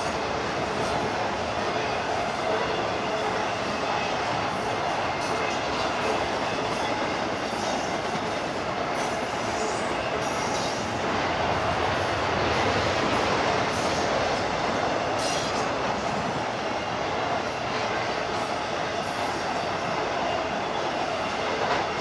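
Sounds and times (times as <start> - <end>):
freight train rolling past: 0.0 - 22.0
steel wheels on rail: 0.0 - 22.0.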